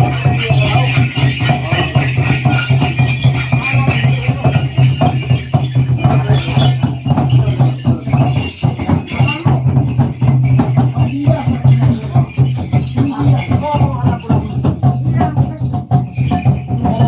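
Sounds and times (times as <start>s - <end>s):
jingling and rattling percussion: 0.0s - 17.0s.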